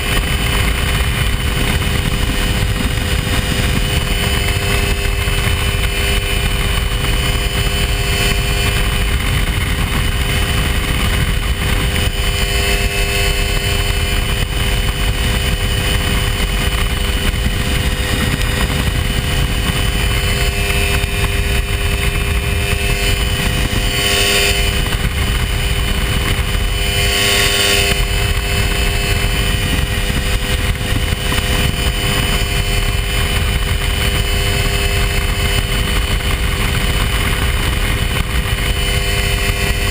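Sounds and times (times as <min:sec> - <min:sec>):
ultralight aircraft engine and propeller: 0:00.0 - 0:39.9.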